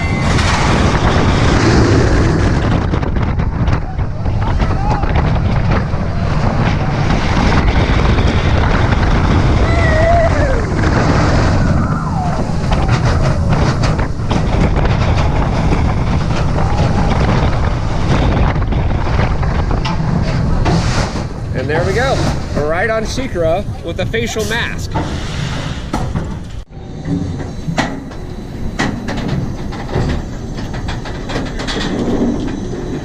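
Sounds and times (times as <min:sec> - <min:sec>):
roller coaster rumble: 0:00.0 - 0:33.0
wind buffeting microphone: 0:00.0 - 0:33.0.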